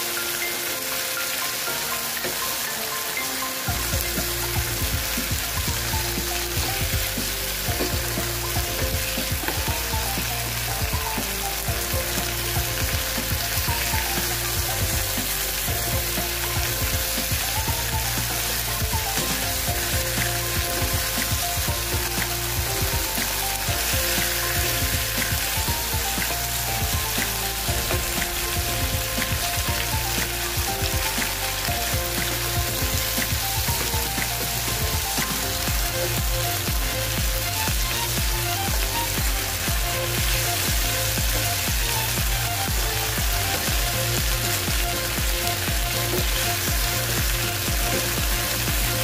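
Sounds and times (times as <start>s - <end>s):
background music with held notes: 0.0s - 49.0s
chicken wings sizzling in a pan: 0.0s - 49.0s.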